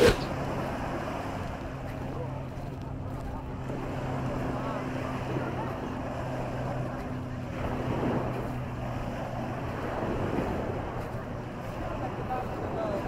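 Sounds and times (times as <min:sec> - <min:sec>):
motorboat engine humming: 0:00.0 - 0:13.0
small waves washing ashore: 0:00.0 - 0:13.0.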